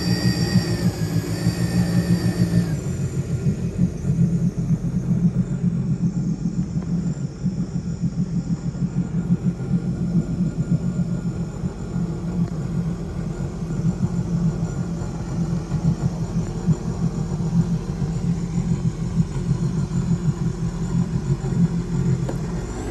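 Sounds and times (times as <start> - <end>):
boat engine idling: 0.0 - 22.9.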